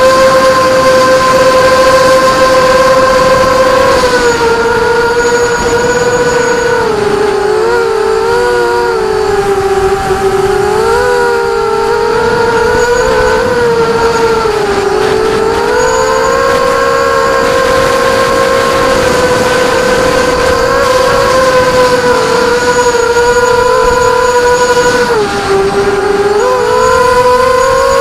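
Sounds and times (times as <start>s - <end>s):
drone propellers whining: 0.0s - 28.0s.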